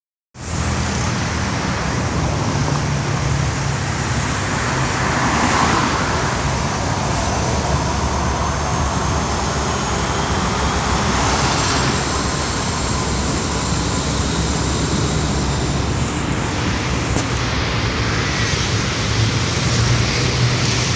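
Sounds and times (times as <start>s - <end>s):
jet engines running: 0.4s - 20.9s
road traffic noise: 0.4s - 20.9s.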